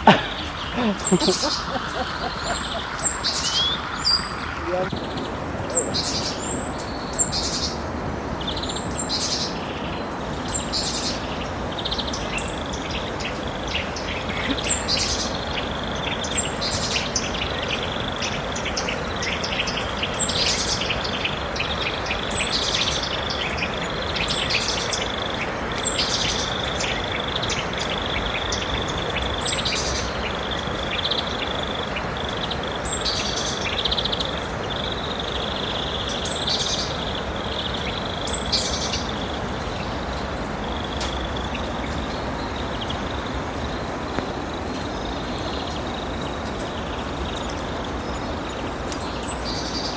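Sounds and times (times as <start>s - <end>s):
birds chirping: 0.0s - 49.9s
steady hiss: 0.0s - 49.9s.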